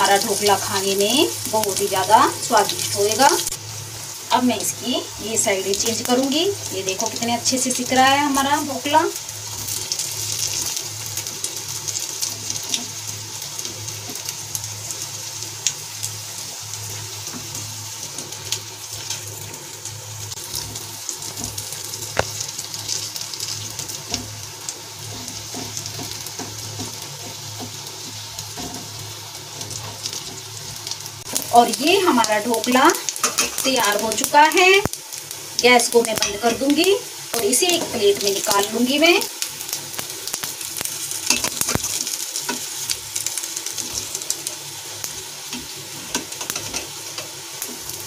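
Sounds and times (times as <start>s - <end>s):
food sizzling in oil: 0.0s - 48.0s.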